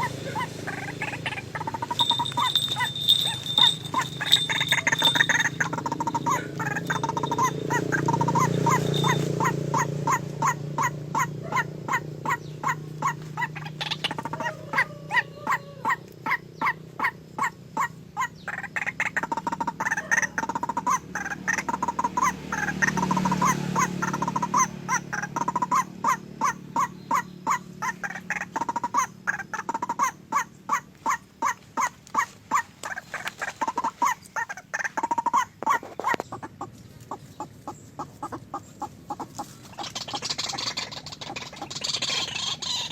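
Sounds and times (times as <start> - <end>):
bird calling: 0.0 - 42.9.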